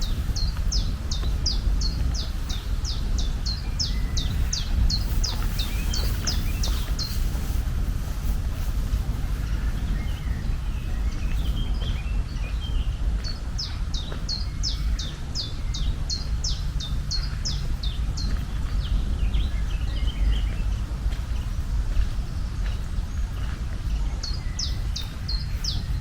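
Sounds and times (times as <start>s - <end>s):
low outdoor rumble: 0.0s - 26.0s
songbird singing: 0.0s - 26.0s.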